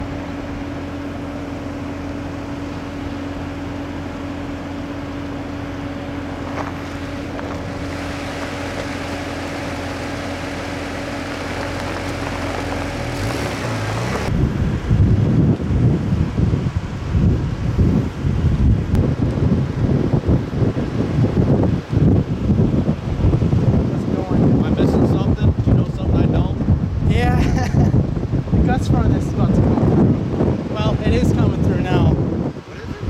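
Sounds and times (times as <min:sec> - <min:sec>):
constant humming tone: 0:00.0 - 0:33.0
vehicle engine drone: 0:00.0 - 0:33.0.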